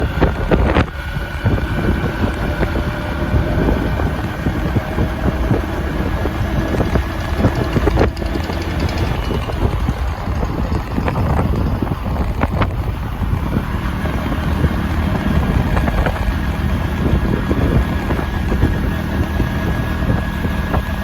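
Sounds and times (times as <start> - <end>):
faint engine hum: 0.0 - 21.0
wind buffeting microphone: 0.0 - 21.0.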